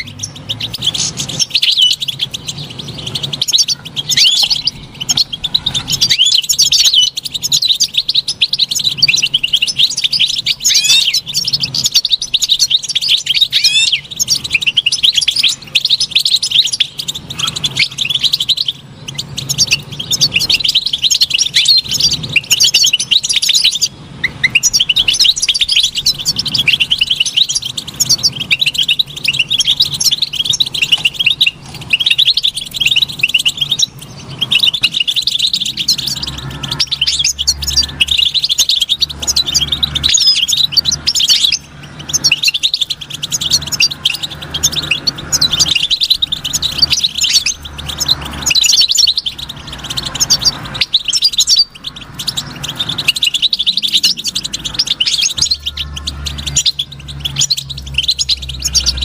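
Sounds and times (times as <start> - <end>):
goldfinch twittering song: 0.0 - 59.0.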